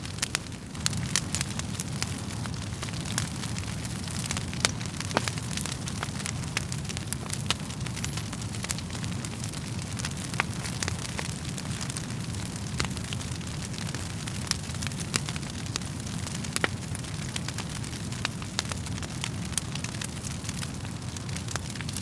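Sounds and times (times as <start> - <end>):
fire crackling and popping: 0.0 - 22.0
wood fire rumbling: 0.0 - 22.0.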